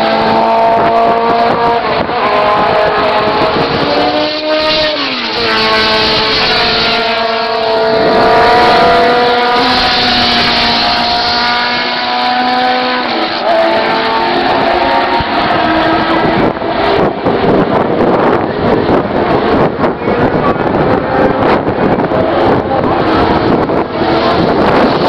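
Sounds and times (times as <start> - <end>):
racing car engines at high revs: 0.0 - 25.0.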